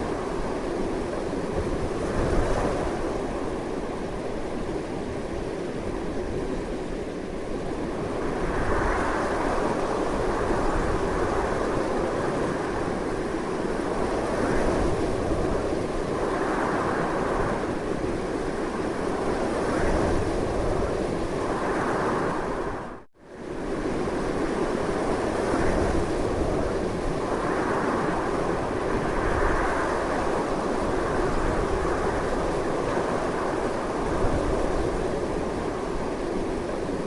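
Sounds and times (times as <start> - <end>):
strong gusty wind: 0.0 - 37.0.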